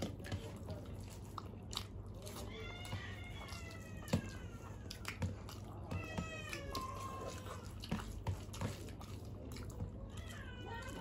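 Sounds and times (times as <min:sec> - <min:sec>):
chewing: 0:00.0 - 0:11.0
fingers mixing rice on metal plate: 0:00.0 - 0:11.0.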